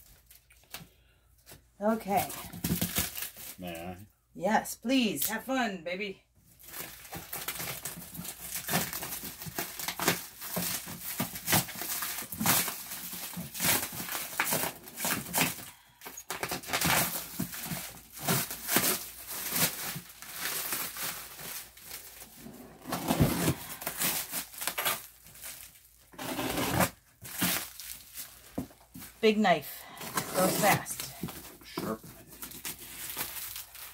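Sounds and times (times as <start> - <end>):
plastic wrap crinkling and tearing: 0.0 - 1.0, 2.1 - 4.0, 6.5 - 33.9.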